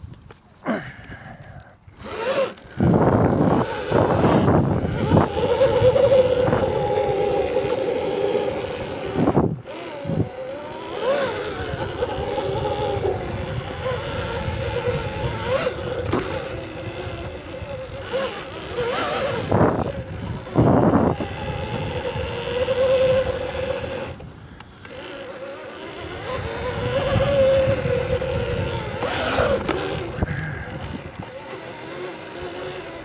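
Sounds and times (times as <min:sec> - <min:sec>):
rough rushing noise: 0:02.0 - 0:32.8
electric motor whine: 0:02.0 - 0:33.0.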